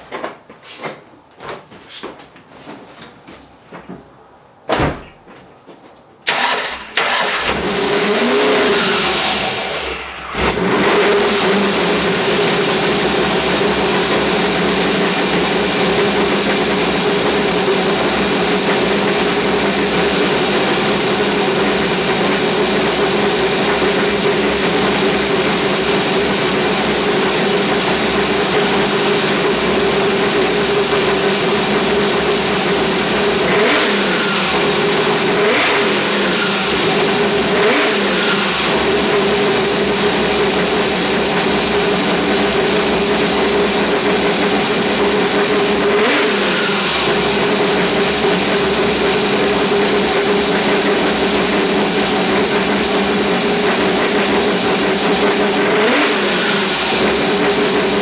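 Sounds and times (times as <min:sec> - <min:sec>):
engine idling and revving: 0:06.3 - 0:58.0.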